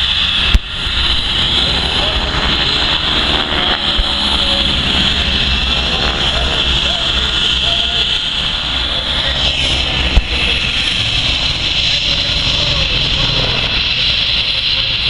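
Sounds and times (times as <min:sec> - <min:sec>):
jet engine whine: 0:00.0 - 0:15.0.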